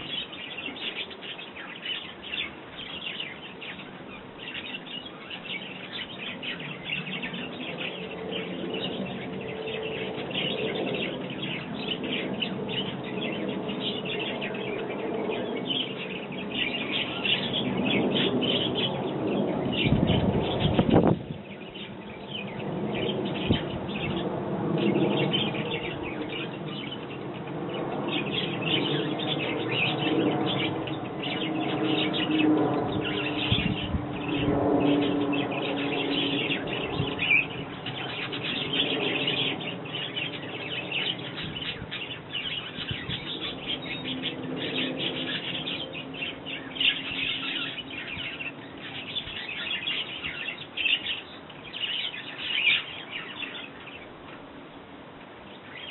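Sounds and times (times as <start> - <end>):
sparrows chirping: 0.0 - 54.6, 55.4 - 55.9.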